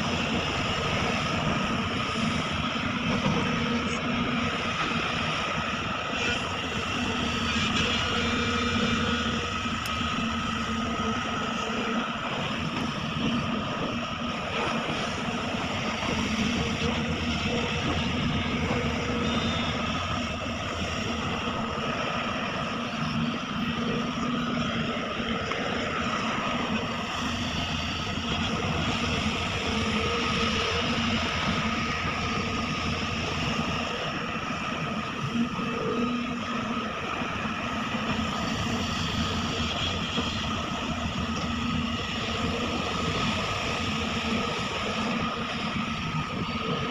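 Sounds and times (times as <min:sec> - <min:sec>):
excavator diesel engine running: 0:00.0 - 0:46.9
high steady whine: 0:00.0 - 0:46.9.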